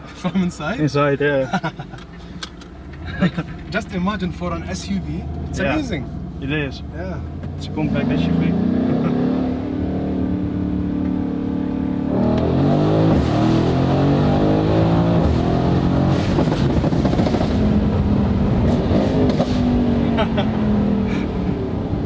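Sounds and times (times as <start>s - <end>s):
car engine revving through gears: 1.8s - 22.0s.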